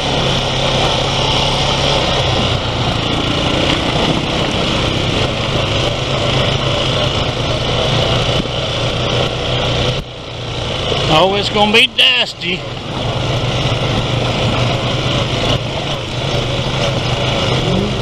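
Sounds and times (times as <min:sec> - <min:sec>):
atv engine running: 0:00.0 - 0:18.0
rushing noise of riding: 0:00.0 - 0:18.0.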